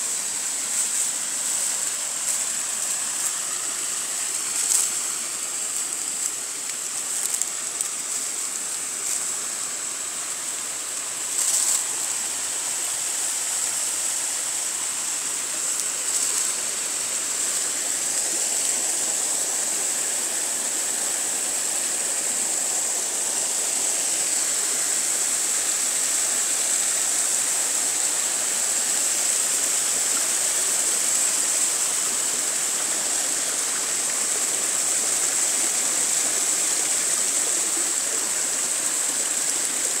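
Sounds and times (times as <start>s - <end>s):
stream rushing over rocks: 0.0s - 40.0s.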